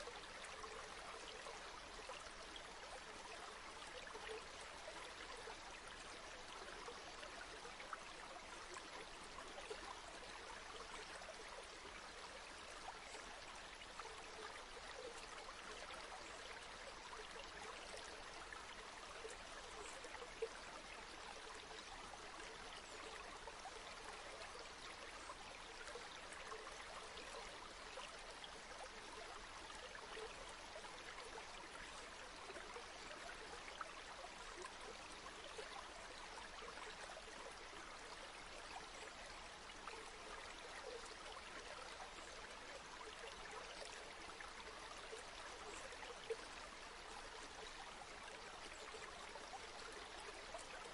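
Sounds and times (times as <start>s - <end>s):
river water babbling over stones: 0.0s - 50.9s.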